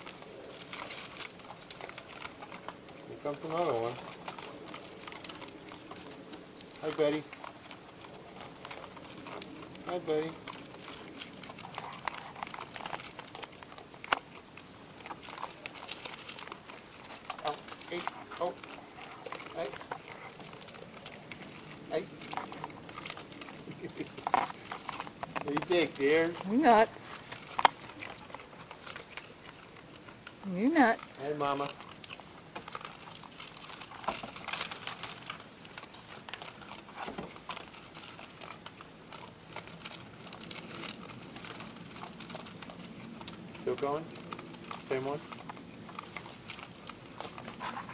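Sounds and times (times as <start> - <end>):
raccoons pattering and scratching: 0.0 - 47.9.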